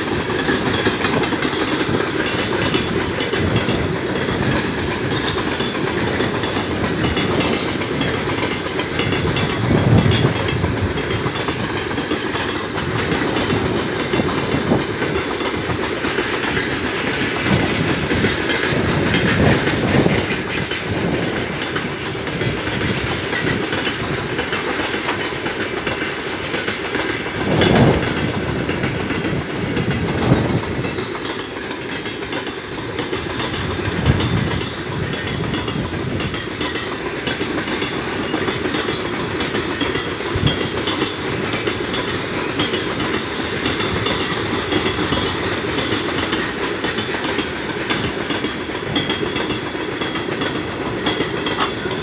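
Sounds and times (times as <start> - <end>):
freight wheels clattering on rails: 0.0 - 52.0.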